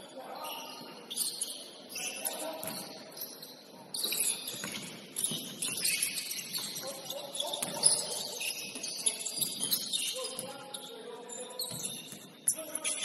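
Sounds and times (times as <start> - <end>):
sneakers squeaking on hardwood: 0.4 - 13.0.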